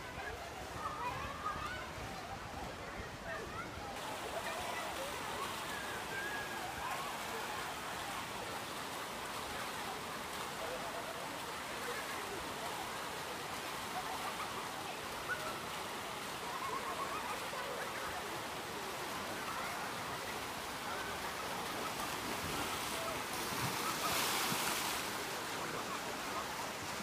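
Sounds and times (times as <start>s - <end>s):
water rushing down slide: 4.0s - 27.0s.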